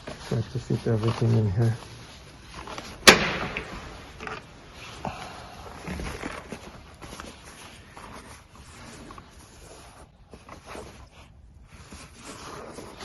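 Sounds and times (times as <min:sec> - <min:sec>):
soft rustling of gear: 0:00.0 - 0:03.0, 0:03.6 - 0:13.0.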